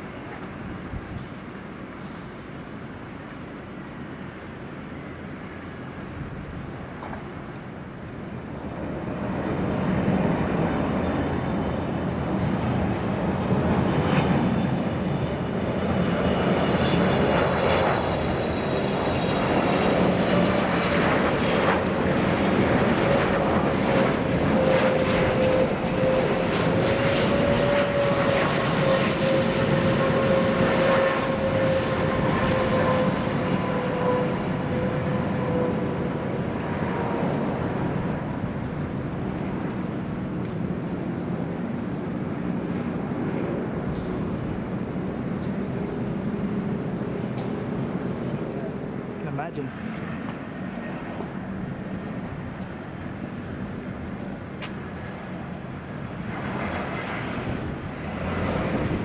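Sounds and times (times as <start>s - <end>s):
jet engines rushing and whining: 0.0s - 59.0s.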